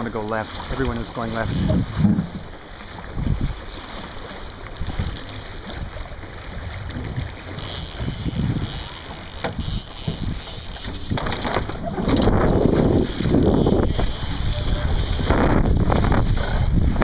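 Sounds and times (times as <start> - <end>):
wind buffeting microphone: 1.4 - 3.7, 4.7 - 17.0.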